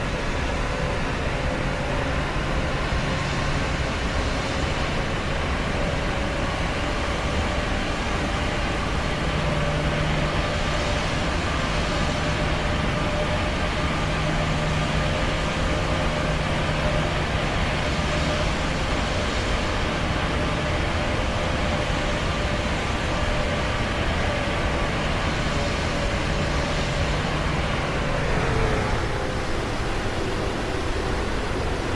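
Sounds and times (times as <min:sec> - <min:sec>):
aircraft engines droning: 0:00.0 - 0:31.9
rushing air: 0:03.0 - 0:31.9.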